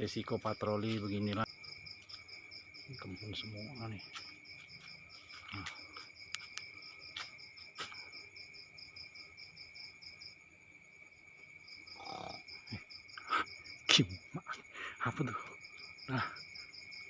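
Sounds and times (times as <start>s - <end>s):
crickets and insects chirping: 0.0s - 17.0s.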